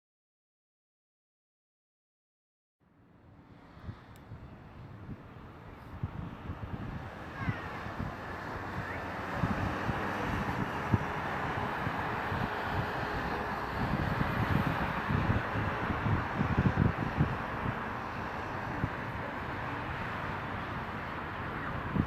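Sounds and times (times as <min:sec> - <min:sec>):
distant jet engine roar: 0:03.3 - 0:22.0
wind buffeting microphone: 0:03.4 - 0:22.0.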